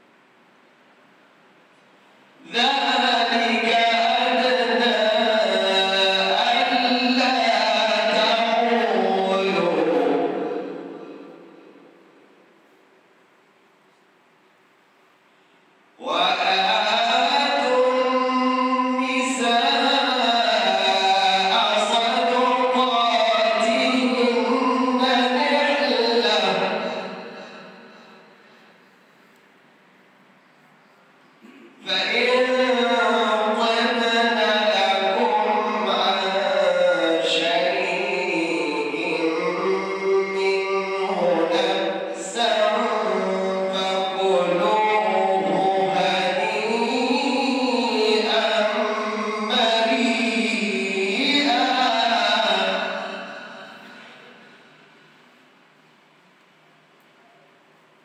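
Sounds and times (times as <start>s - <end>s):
man chanting melodically: 2.4s - 12.2s, 16.0s - 29.0s, 31.3s - 55.1s.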